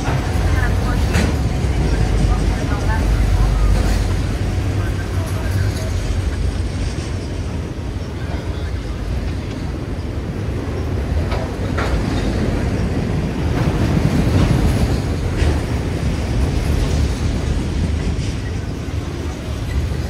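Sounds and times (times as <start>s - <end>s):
freight train cars rumbling past: 0.0s - 20.0s
wheels clacking over rail joints: 0.0s - 20.0s.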